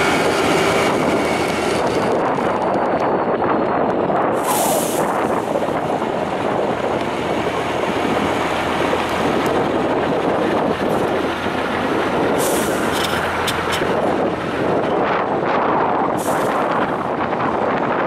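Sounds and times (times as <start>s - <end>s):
diesel truck engine under load: 0.0s - 18.0s.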